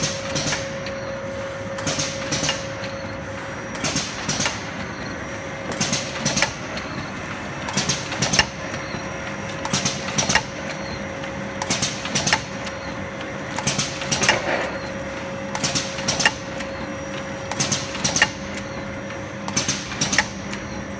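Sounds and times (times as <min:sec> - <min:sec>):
packing machine clacks: 0:00.0 - 0:01.0, 0:01.7 - 0:03.1, 0:03.7 - 0:05.0, 0:05.6 - 0:20.9
machine hum: 0:00.0 - 0:20.9.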